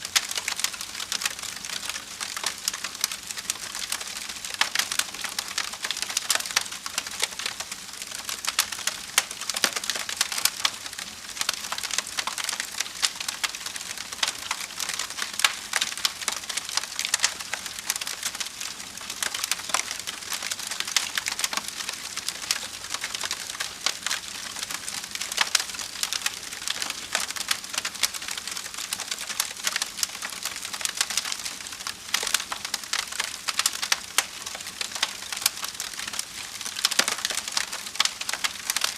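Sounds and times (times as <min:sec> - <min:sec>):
wood fire crackling and popping: 0:00.1 - 0:38.9.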